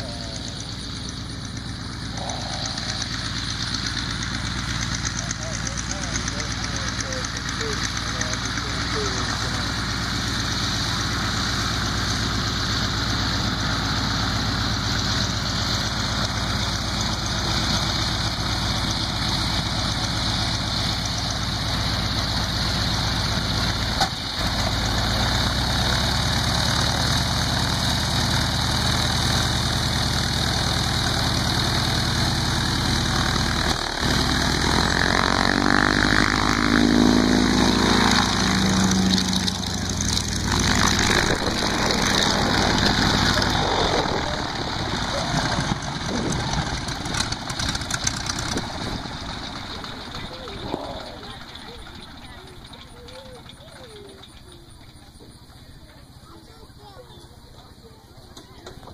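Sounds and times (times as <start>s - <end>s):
radial aircraft engine idling: 0.0s - 58.9s.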